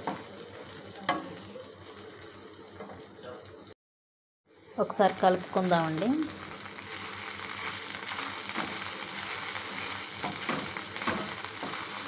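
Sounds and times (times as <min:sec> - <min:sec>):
food sizzling in hot oil: 0:00.0 - 0:03.7, 0:04.5 - 0:12.0.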